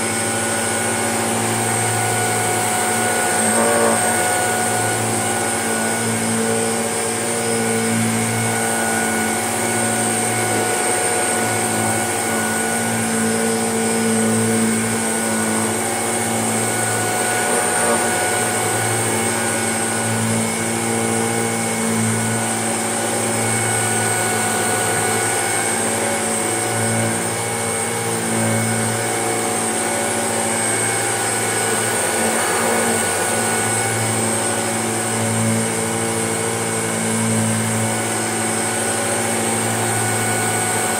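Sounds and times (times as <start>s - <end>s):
vacuum cleaner on carpet: 0.0s - 40.9s.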